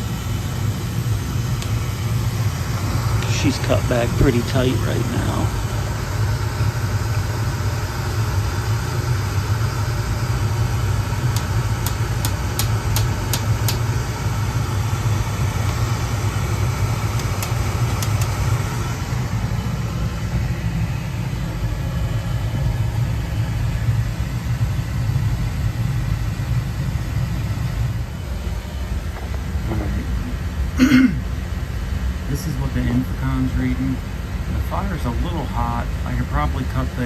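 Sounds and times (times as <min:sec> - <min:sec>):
oil burner rumbling: 0:00.0 - 0:37.0.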